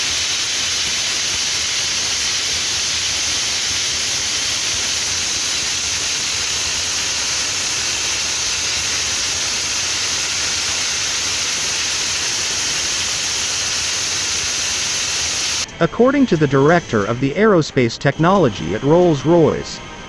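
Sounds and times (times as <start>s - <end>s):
gas turbine hissing rush: 0.0s - 20.0s.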